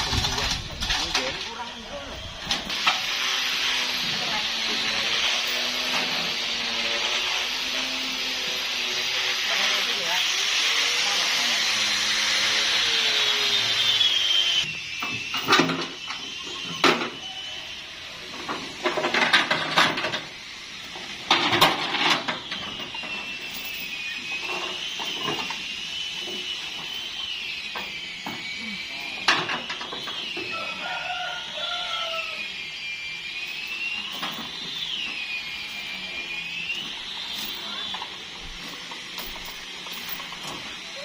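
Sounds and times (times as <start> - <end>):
chainsaw running: 0.0 - 41.0.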